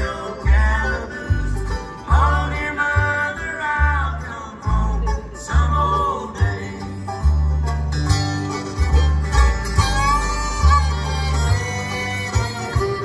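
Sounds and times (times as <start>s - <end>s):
banjo: 0.0s - 13.0s
guitar: 0.0s - 13.0s
upright bass: 0.0s - 13.0s.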